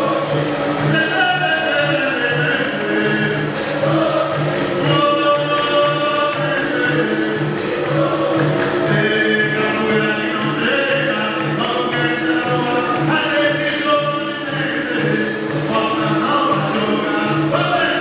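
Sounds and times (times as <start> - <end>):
drum beat: 0.0 - 18.0
group chorus singing: 0.0 - 18.0
pandeiro: 0.0 - 18.0.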